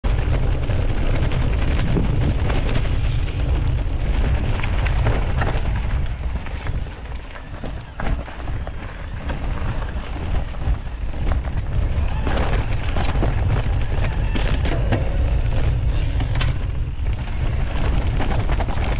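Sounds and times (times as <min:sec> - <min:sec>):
wind buffeting microphone: 0:00.0 - 0:18.9
bike clatters and knocks: 0:00.1 - 0:18.9
tyre rumble: 0:00.1 - 0:18.9.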